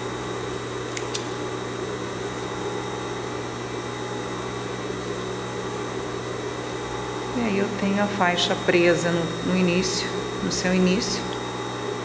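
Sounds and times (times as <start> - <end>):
electric motor hum: 1.6 - 12.0.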